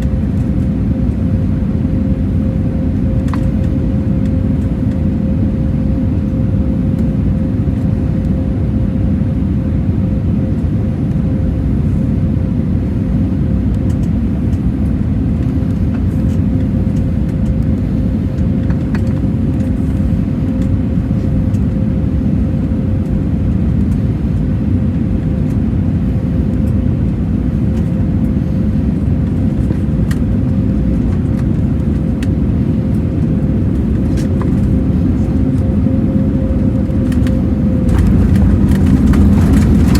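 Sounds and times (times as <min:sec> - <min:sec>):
airplane cabin rumble: 0:00.0 - 0:39.9
engine hum: 0:00.0 - 0:39.9.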